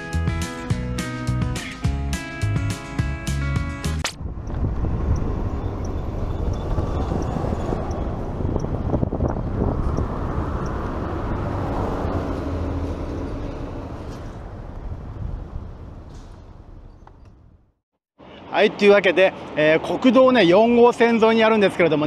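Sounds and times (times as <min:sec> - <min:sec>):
rumble of passing vehicles: 0:02.0 - 0:22.0.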